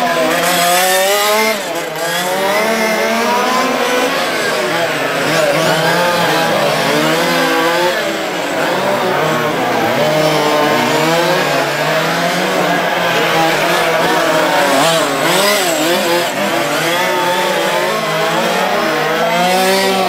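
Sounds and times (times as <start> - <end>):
small engines revving and whining: 0.0 - 20.0.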